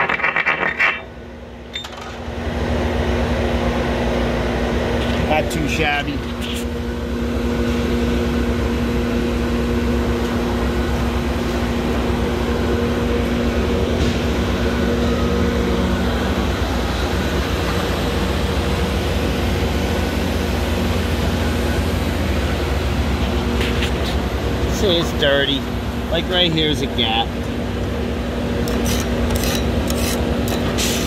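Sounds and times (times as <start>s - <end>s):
machine drone: 0.0s - 31.0s.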